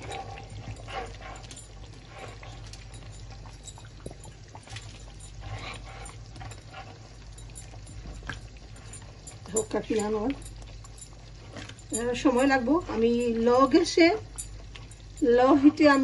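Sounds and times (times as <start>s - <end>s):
curry bubbling: 0.0s - 16.0s
steady low hum: 0.0s - 16.0s.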